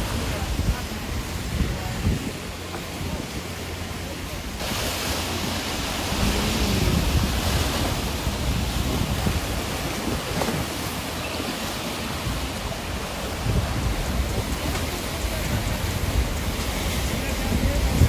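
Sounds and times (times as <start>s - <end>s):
rushing water: 0.0s - 18.0s
wind buffeting microphone: 0.0s - 18.0s.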